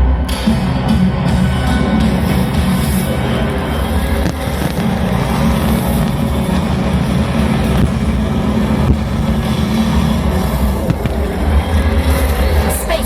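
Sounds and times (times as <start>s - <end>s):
low rumble over pa system: 0.0s - 13.0s
faint sharp bangs: 1.6s - 12.7s.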